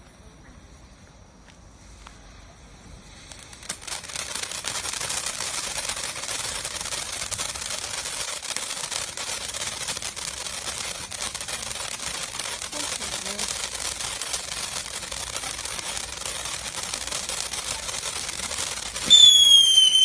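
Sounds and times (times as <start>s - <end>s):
steady hiss of sparks: 0.9s - 20.0s
firework crackling: 1.4s - 20.0s.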